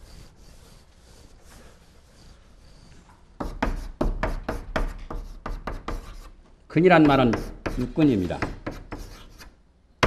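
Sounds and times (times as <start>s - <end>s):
eraser rubbing on board: 0.0s - 6.3s, 7.1s - 9.5s
chalk scratching on blackboard: 0.0s - 6.4s, 7.1s - 9.6s.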